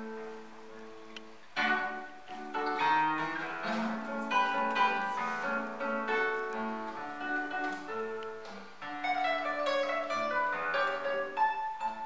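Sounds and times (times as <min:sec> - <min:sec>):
classical nylon-string guitar: 0:00.0 - 0:12.0.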